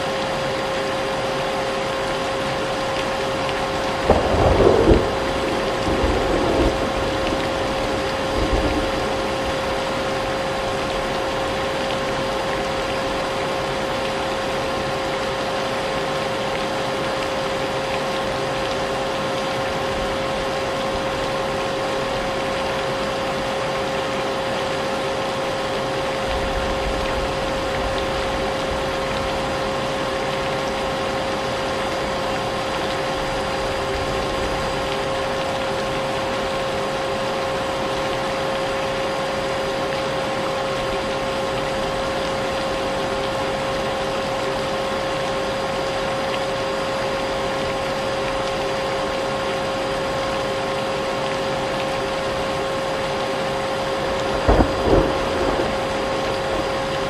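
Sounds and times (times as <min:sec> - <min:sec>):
rain: 0:00.0 - 0:57.0.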